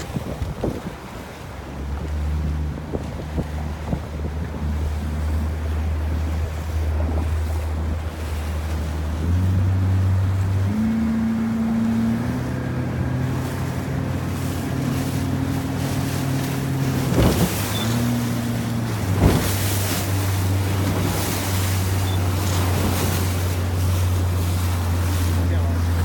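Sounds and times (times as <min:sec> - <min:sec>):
motorboat engine running: 0:00.0 - 0:26.0
water noise: 0:00.0 - 0:26.0
wind: 0:00.0 - 0:26.0.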